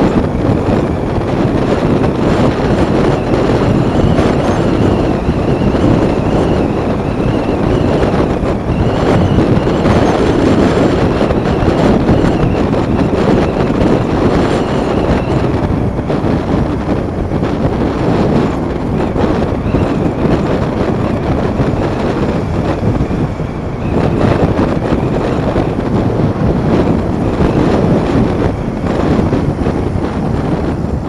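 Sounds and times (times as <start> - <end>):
motorbike road noise: 0.0 - 31.0
wind rushing: 0.0 - 31.0.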